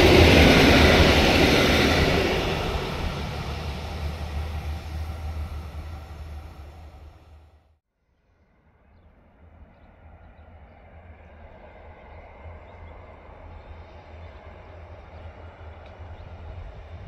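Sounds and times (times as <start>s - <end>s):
distant train rumble: 0.0s - 7.7s, 8.9s - 17.0s.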